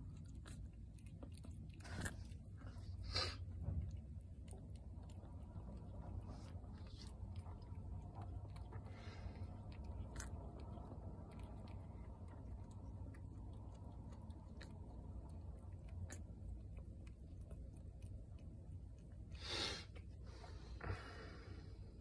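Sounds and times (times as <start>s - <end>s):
cat licking and chewing: 0.0s - 21.3s
low steady rumble: 0.0s - 22.0s.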